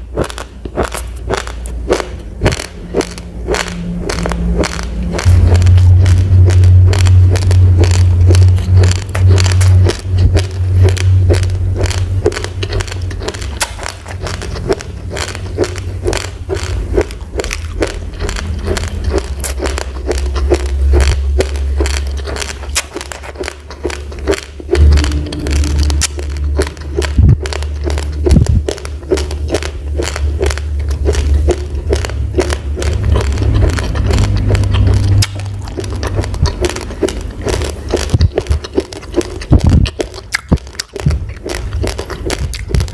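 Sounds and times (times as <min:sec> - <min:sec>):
rice grains crunching: 0:00.0 - 0:42.9
steady low hum: 0:00.0 - 0:42.9.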